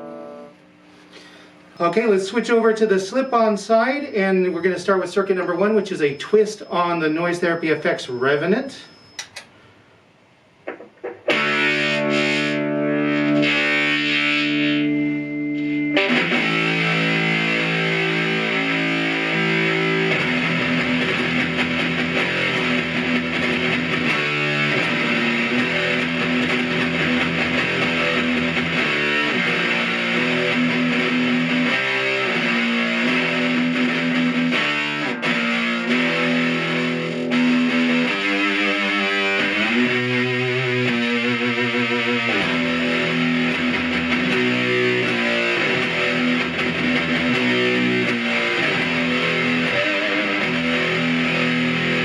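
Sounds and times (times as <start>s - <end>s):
fuzz electric guitar: 0.0s - 9.4s, 10.6s - 52.0s.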